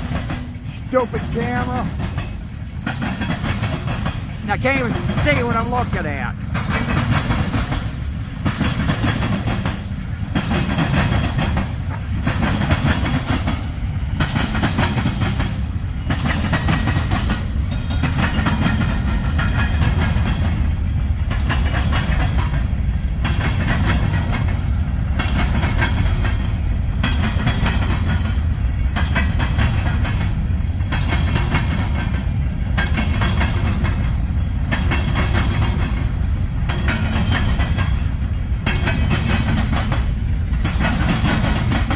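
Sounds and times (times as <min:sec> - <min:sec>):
clickety-clack over rail joints: 0:00.0 - 0:41.9
train wheels rumbling on rails: 0:00.0 - 0:41.9.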